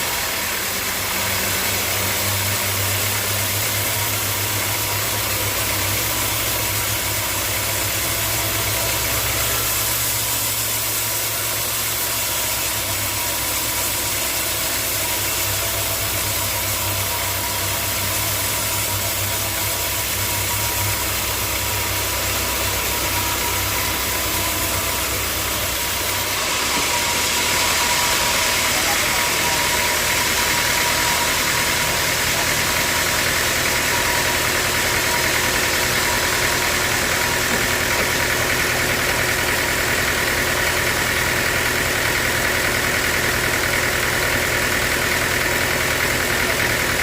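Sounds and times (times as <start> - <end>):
sawmill machinery humming and whining: 0.0 - 47.0.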